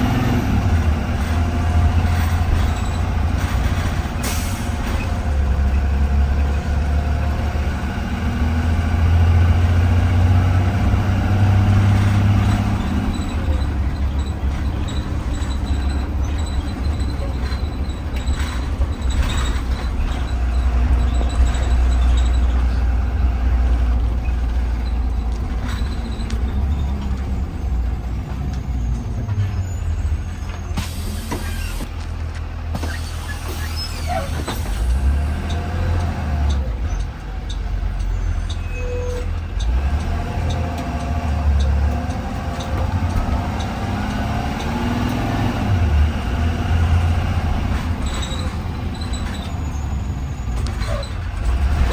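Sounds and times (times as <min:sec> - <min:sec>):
bus engine rumble: 0:00.0 - 0:51.9.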